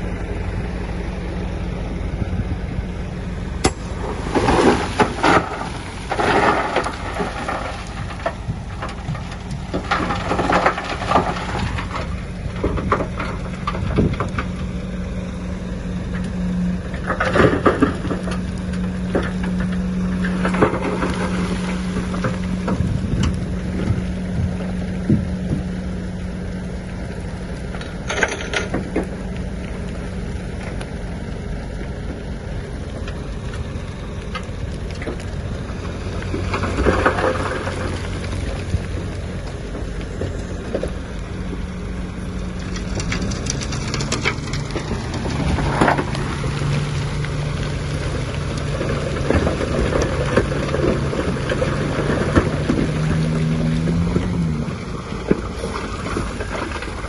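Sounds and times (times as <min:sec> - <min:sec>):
bulldozer diesel engine: 0:00.0 - 0:57.0
soil and stone crunching: 0:00.0 - 0:57.0
track clatter: 0:03.4 - 0:15.2, 0:15.8 - 0:57.0.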